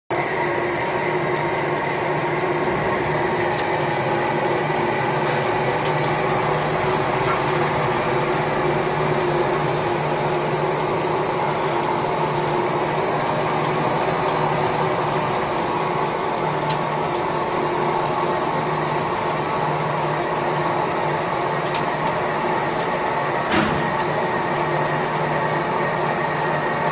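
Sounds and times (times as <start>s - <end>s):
lathe spindle humming: 0.2s - 26.8s.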